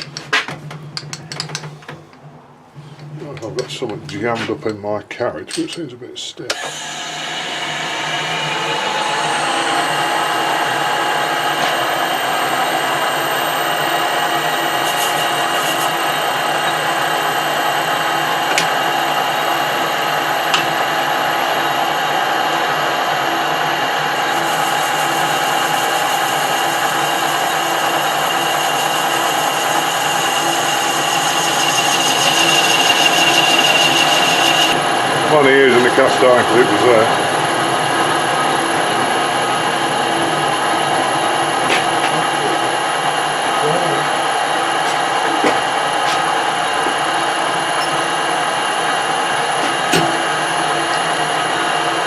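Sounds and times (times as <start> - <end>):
metal lathe whining: 6.5 - 52.0.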